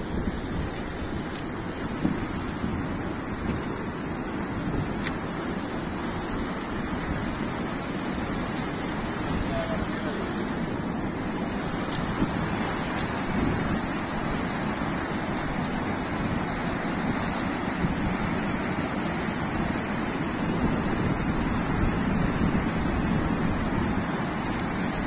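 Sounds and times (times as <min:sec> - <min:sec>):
floodwater rushing: 0:00.0 - 0:25.0
wind on microphone: 0:00.0 - 0:25.0.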